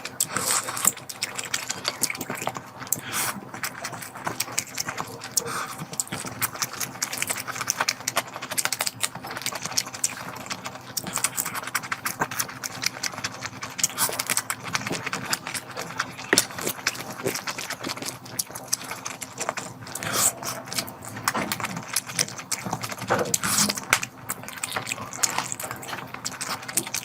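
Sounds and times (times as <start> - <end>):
close-up chewing and lip-smacking: 0.0 - 27.0
faint steady hum: 0.0 - 27.0.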